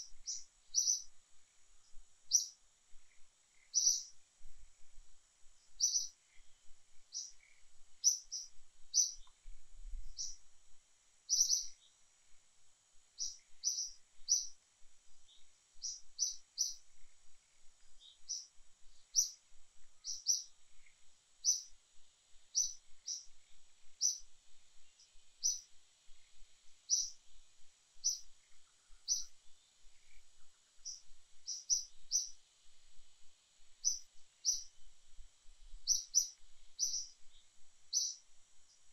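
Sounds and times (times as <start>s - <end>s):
bird chirping: 0.0s - 4.2s, 5.6s - 10.5s, 11.3s - 12.0s, 13.2s - 14.6s, 15.2s - 21.8s, 22.5s - 27.4s, 28.0s - 32.4s, 33.8s - 34.9s, 35.8s - 38.9s.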